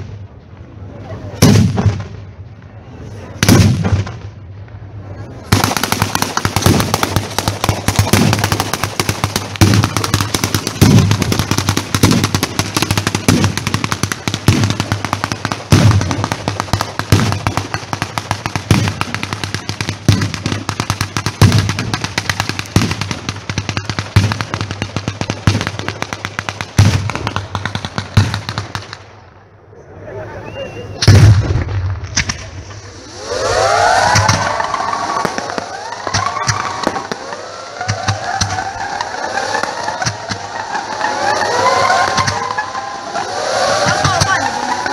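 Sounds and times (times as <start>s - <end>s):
fireworks bangs: 0.0s - 29.4s, 30.9s - 44.9s
fireworks crackling: 0.0s - 29.4s, 30.8s - 44.9s.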